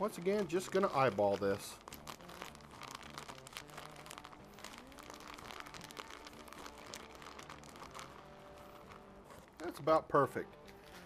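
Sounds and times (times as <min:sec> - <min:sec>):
sugar bag crinkling: 0:00.0 - 0:11.0.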